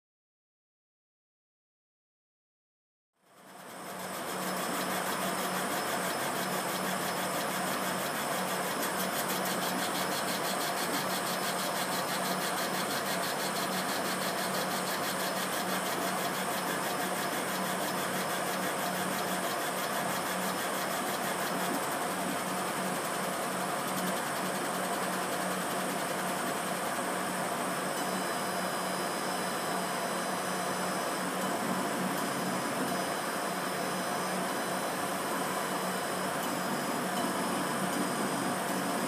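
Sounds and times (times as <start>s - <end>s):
laser cutter fans whirring: 3.2s - 39.0s.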